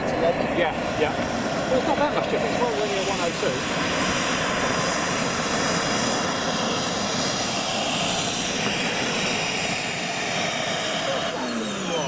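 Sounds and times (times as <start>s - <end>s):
jet turbine whine: 0.0s - 12.0s.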